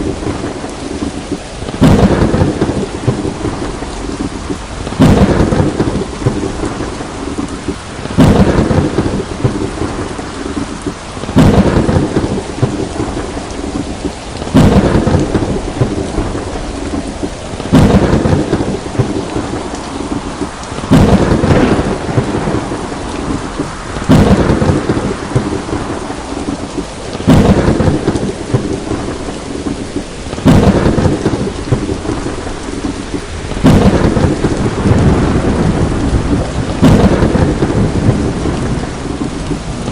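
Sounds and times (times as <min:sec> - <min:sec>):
steady rain: 0:00.0 - 0:39.9
thunder claps: 0:00.0 - 0:39.9.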